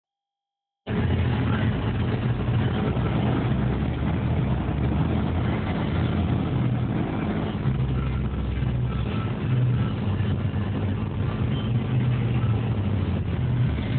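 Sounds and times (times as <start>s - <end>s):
road noise: 0.8s - 13.9s
car engine rumble: 0.9s - 13.9s.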